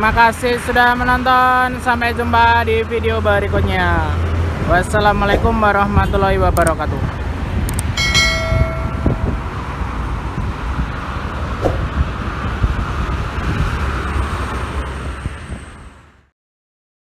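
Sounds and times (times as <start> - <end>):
highway traffic: 0.0 - 16.3.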